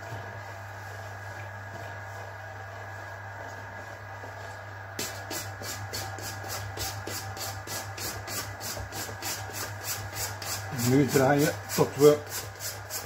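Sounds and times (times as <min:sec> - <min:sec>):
dough swishing against bowl: 0:00.0 - 0:13.0.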